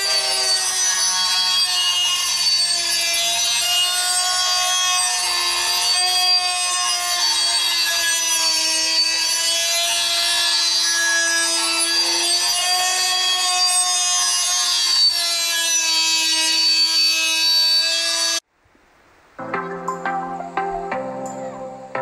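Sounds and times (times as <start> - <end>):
grinder whining on metal blade: 0.0 - 18.4.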